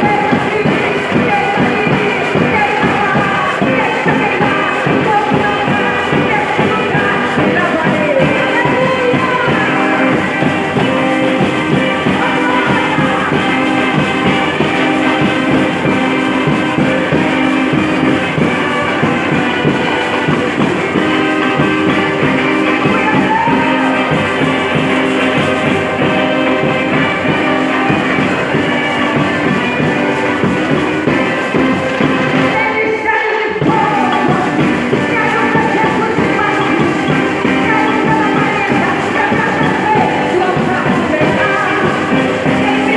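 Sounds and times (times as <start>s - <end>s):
orchestra playing worship music: 0.0s - 42.9s.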